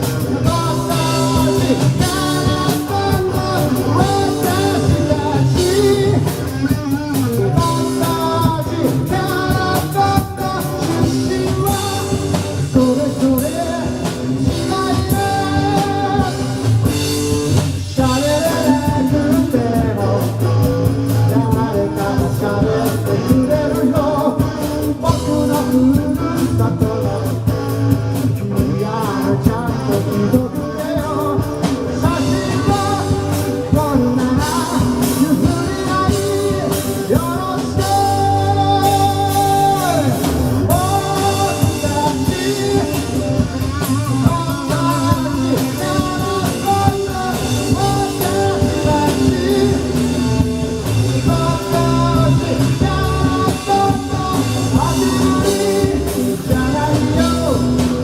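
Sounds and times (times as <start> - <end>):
person singing lead vocal: 0.0 - 58.0
rock band playing: 0.0 - 58.0.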